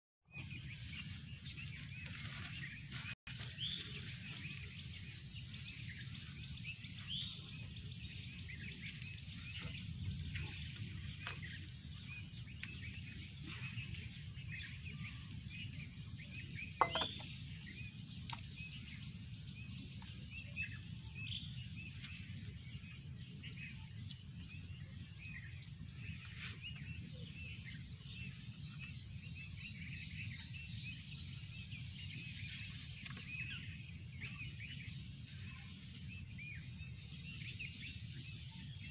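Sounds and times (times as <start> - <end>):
small birds chirping: 0.3 - 38.9
low outdoor rumble: 0.6 - 38.9.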